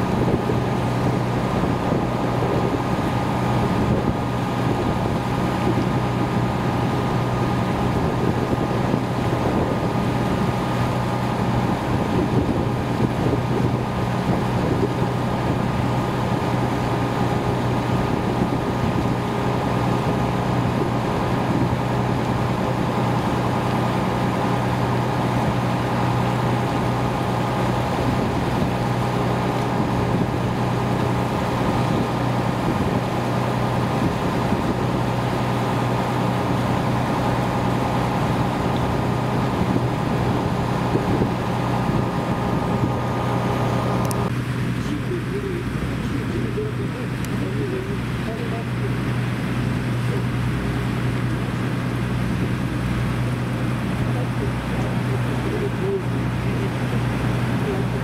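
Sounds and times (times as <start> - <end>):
boat engine running: 0.0 - 58.0
water noise: 0.0 - 58.0
wind: 0.0 - 58.0.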